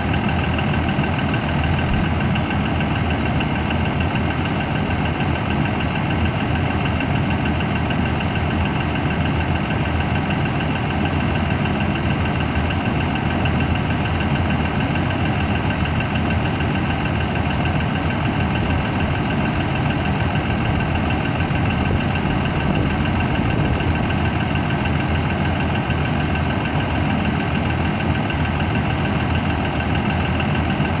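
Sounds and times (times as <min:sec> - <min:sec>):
bus diesel engine idling: 0:00.0 - 0:31.0.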